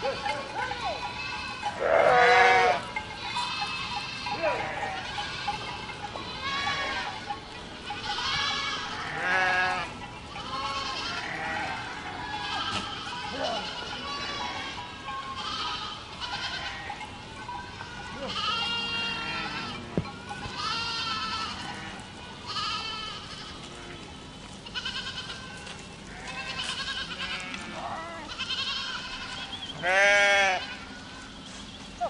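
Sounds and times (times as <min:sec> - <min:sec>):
goats bleating: 0:00.0 - 0:31.3.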